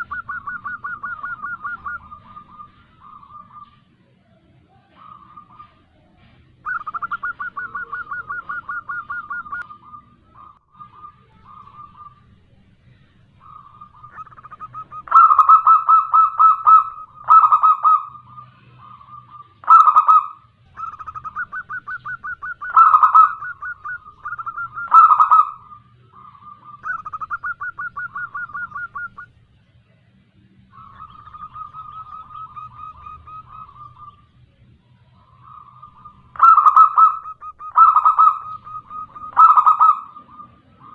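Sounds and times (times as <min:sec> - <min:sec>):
dove pulsing coos: 0:00.0 - 0:29.4, 0:30.6 - 0:40.9.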